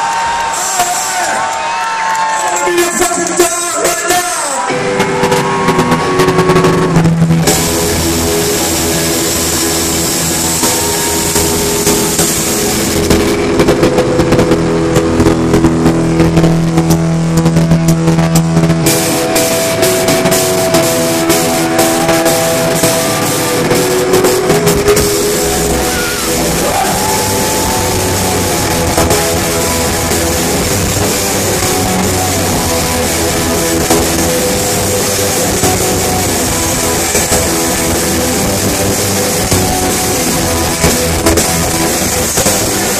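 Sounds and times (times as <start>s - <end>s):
distorted electric guitars: 0.0s - 42.9s
live rock band playing: 2.1s - 42.9s
drum kit: 2.2s - 42.9s.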